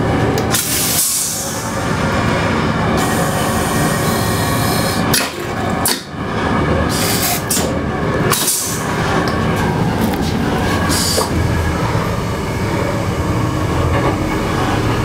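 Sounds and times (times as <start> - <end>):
train rumble and rattle: 0.0 - 15.0.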